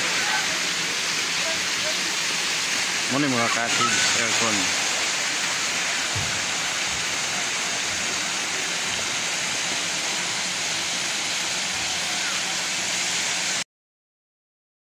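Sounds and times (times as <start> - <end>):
steady rushing hiss: 0.0 - 13.6.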